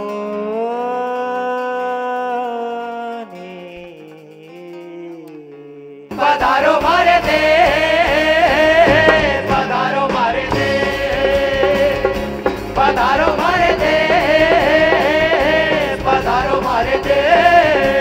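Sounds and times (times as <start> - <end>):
acoustic and electric guitars: 0.0 - 18.0
person singing sliding melody: 3.2 - 18.0.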